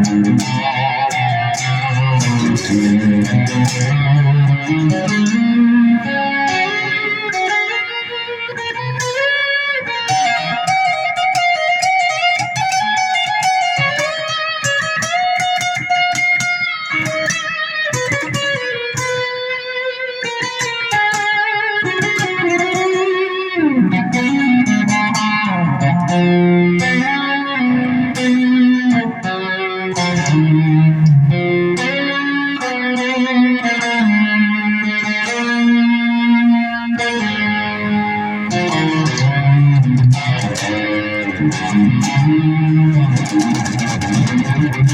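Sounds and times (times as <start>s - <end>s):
electric guitar through an amp: 0.0s - 44.9s.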